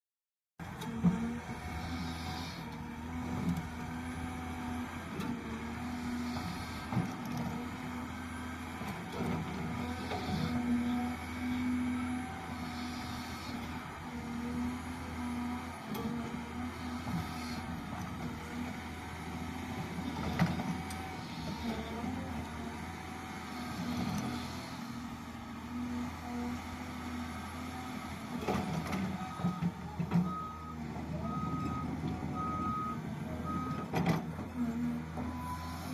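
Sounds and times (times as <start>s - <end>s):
construction machine engine running: 0.6s - 35.9s.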